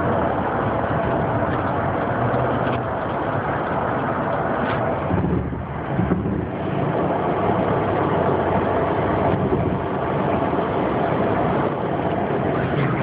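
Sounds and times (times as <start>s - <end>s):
car road noise from inside: 0.0s - 13.0s.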